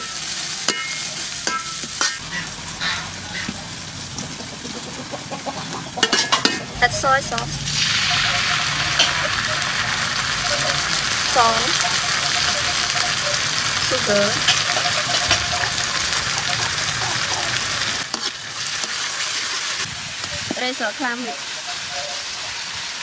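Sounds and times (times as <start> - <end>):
vegetables sizzling in hot oil: 0.0 - 4.9, 5.8 - 23.0.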